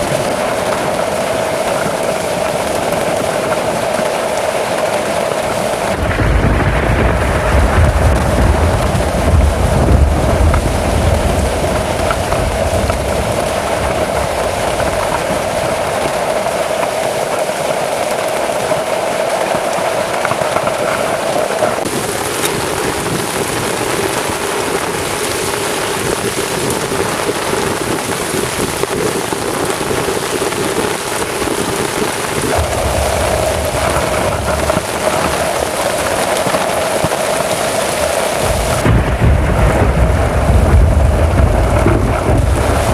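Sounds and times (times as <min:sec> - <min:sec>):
heavy rain pouring: 0:00.0 - 0:42.9
low thunder rumbling: 0:00.0 - 0:42.9.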